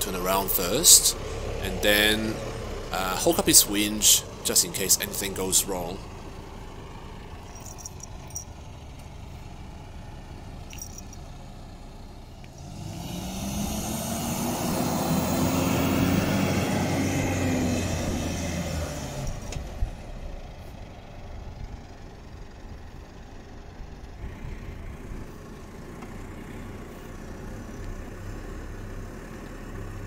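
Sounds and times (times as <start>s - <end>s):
vehicle engine in sand: 0.0s - 30.0s.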